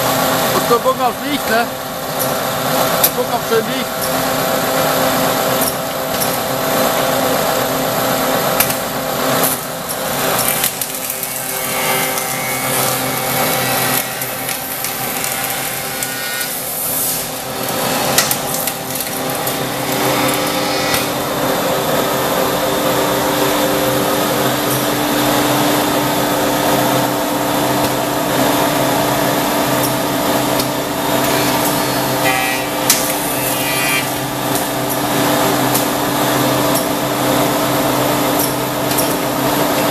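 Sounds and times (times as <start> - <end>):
cutters working wood: 0.0 - 7.3, 9.4 - 27.2, 29.8 - 37.4
shaper cutter motors humming: 0.0 - 39.9.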